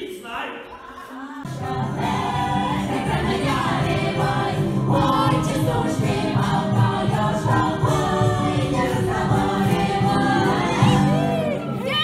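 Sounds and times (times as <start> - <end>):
group of voices singing with music: 0.2 - 12.0.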